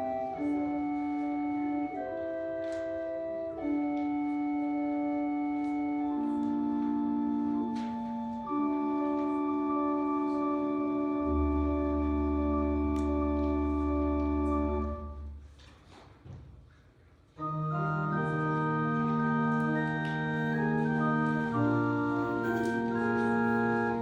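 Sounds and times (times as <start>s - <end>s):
church organ chords: 0.0s - 15.4s, 17.4s - 24.0s.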